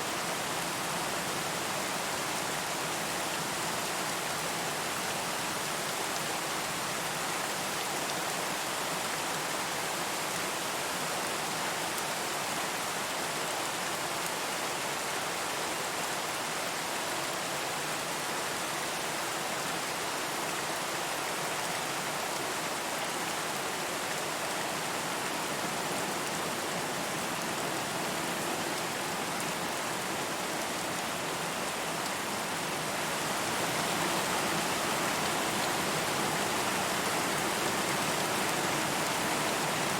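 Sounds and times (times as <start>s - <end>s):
rain falling on surfaces: 0.0s - 39.9s.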